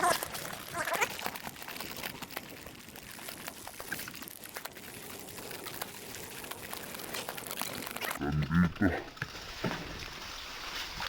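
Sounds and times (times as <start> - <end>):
bike rattling: 0.0 - 11.0
bike tyres crunching on dirt: 0.0 - 11.0.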